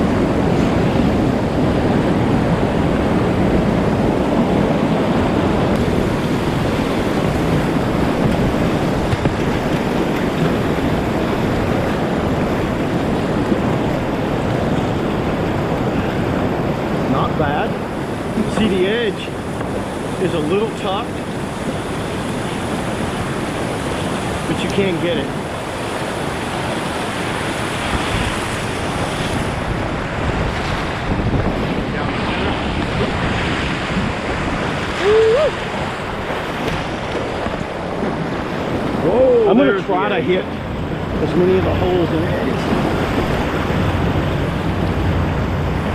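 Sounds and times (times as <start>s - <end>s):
whitewater rushing: 0.0s - 45.9s
wind noise on microphone: 0.0s - 45.9s.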